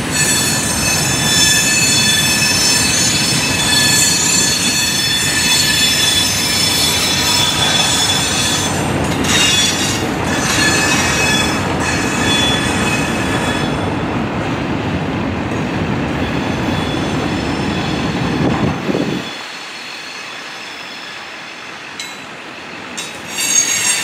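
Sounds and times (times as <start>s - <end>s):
wheel flange squeal: 0.0s - 13.9s, 16.2s - 22.2s, 23.0s - 24.0s.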